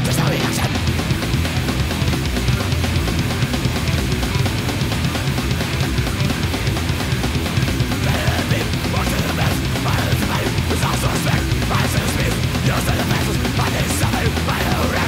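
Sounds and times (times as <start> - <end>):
bass guitar: 0.0 - 15.0
distorted electric guitars: 0.0 - 15.0
fast drum kit beat: 0.0 - 15.0.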